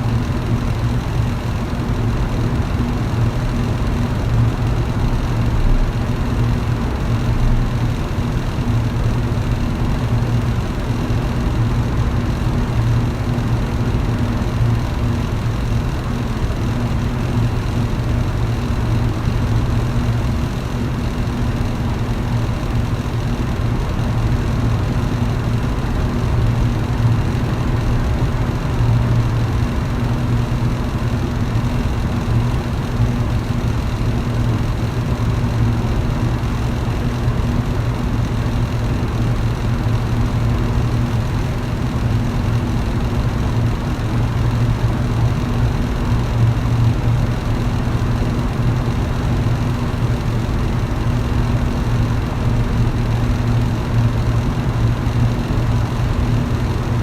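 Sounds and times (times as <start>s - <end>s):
electric fan running: 0.0s - 57.0s.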